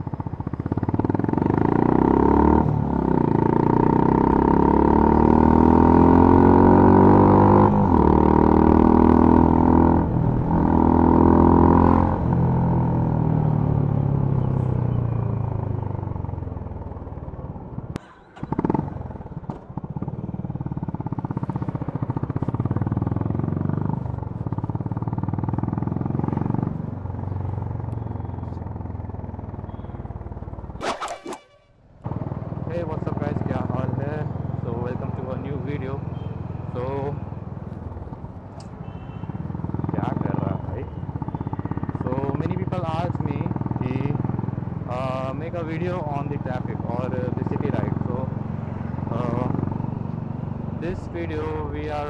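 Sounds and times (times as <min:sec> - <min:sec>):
motorcycle engine accelerating: 0:00.0 - 0:38.4, 0:39.4 - 0:52.0.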